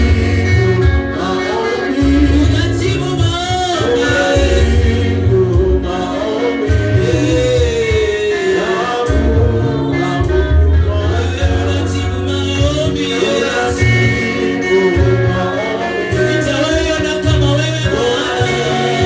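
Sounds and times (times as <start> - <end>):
bass line: 0.0 - 19.0
keyboard chords: 0.0 - 19.0
people singing: 0.0 - 19.0.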